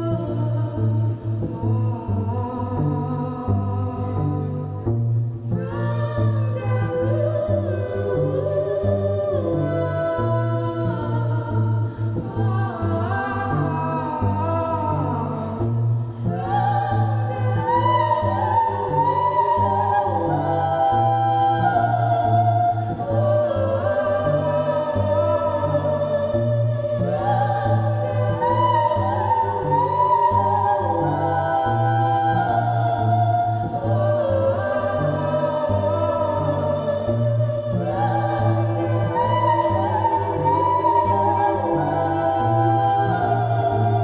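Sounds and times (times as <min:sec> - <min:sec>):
cello notes: 0:00.0 - 0:44.0
woman singing: 0:00.0 - 0:44.0.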